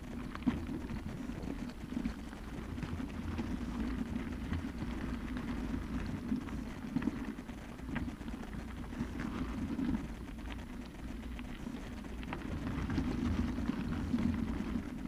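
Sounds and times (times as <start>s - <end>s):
bicycle tyres rolling on gravel: 0.0s - 15.0s
gravel crackling under wheels: 0.0s - 15.0s.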